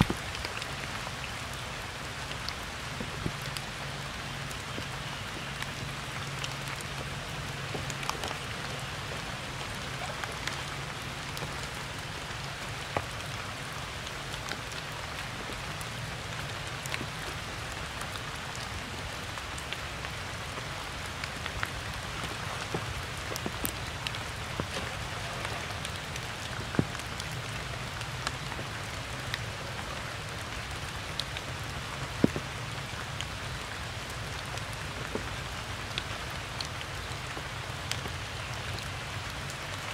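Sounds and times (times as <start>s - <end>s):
rain on stone and grass: 0.0s - 39.9s.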